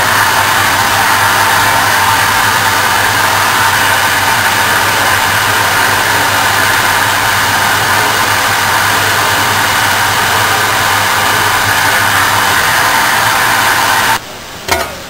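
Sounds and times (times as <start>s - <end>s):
wood lathe and dust extractor: 0.0s - 14.2s.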